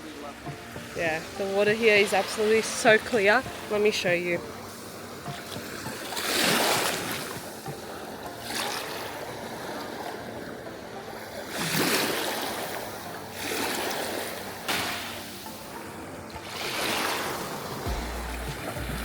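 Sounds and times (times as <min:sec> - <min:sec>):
sea waves washing onto shore: 0:00.0 - 0:19.0.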